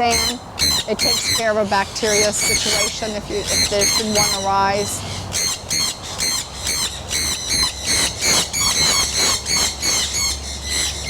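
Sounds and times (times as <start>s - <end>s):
parrots screeching: 0.0s - 11.0s.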